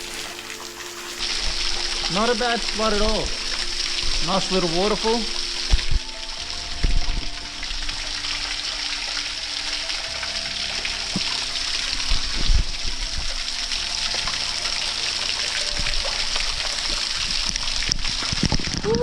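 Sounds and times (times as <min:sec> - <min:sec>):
waterfall pouring into pool: 0:00.0 - 0:19.0.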